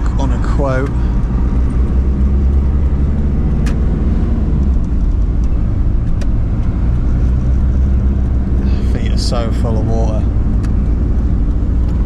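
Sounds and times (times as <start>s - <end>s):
sharp clicks: 0.0s - 12.0s
vehicle engine and road noise: 0.0s - 12.0s.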